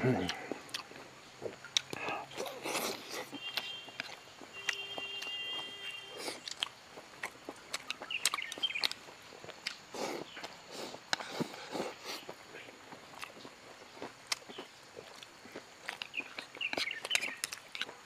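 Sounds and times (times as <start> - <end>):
person chewing and lip-smacking: 0.1 - 18.0.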